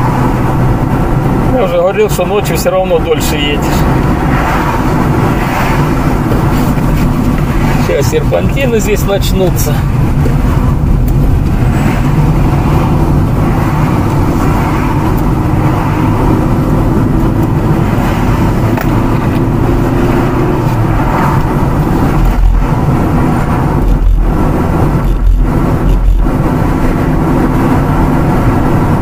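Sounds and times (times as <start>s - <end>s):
car engine and tyre noise: 0.0s - 29.0s.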